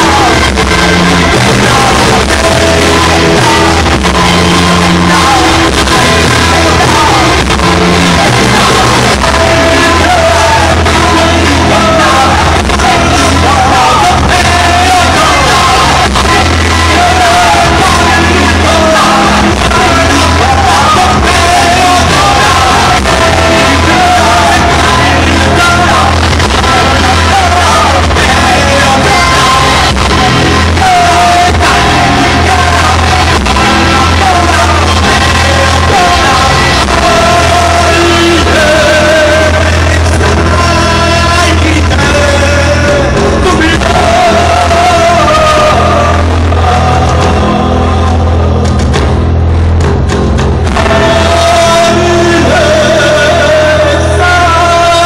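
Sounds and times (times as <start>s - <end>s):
chant-like singing voice: 0.0s - 48.6s, 50.7s - 55.0s
deep bass drone: 0.0s - 55.0s.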